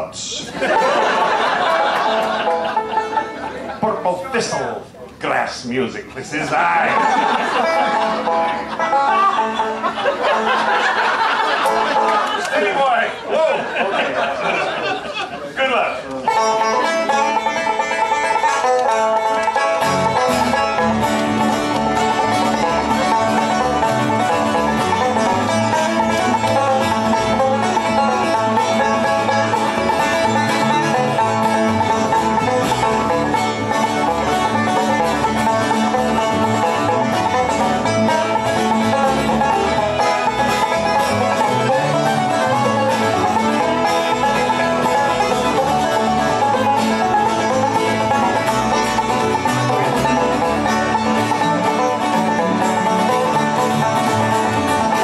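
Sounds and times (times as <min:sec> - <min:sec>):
banjo picking: 0:00.0 - 0:55.0
bluegrass band playing: 0:00.0 - 0:55.0.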